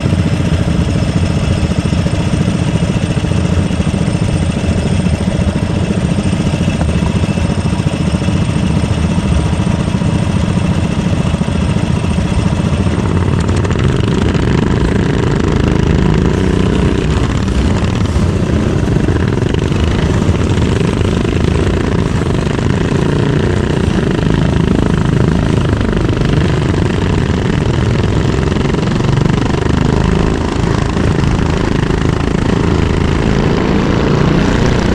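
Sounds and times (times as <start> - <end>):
kart engine running: 0.0 - 34.9.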